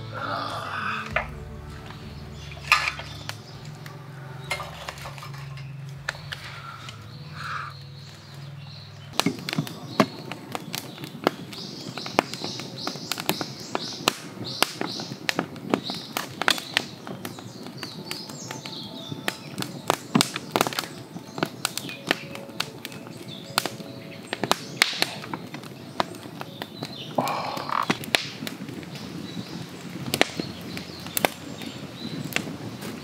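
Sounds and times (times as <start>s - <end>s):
birds chirping: 0.0s - 33.0s
wood fire crackling and popping: 0.0s - 33.0s.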